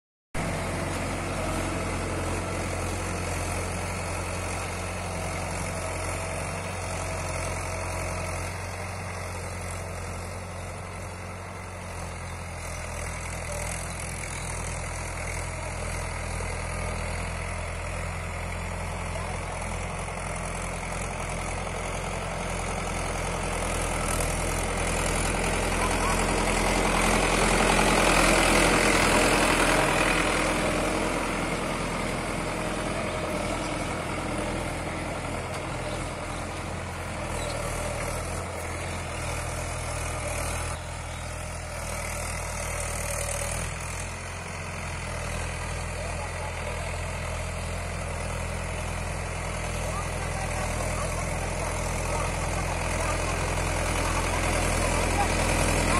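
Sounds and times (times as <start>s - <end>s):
tractor engine droning: 0.4s - 55.9s.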